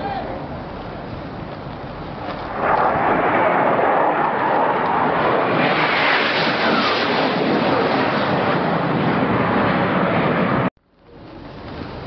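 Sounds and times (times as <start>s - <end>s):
wind on microphone: 0.0s - 12.0s
jet engines roaring: 0.2s - 12.0s.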